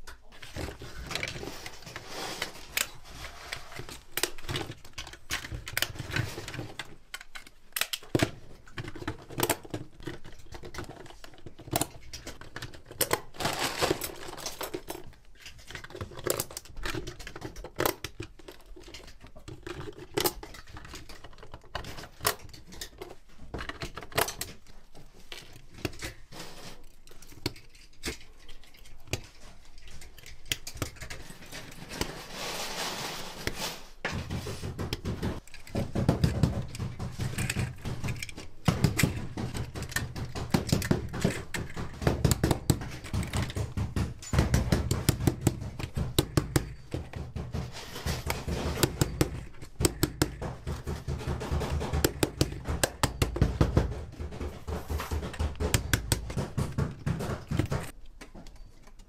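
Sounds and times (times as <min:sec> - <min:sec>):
small hard parts clicking and snapping: 0:00.0 - 0:32.4, 0:33.4 - 0:59.0.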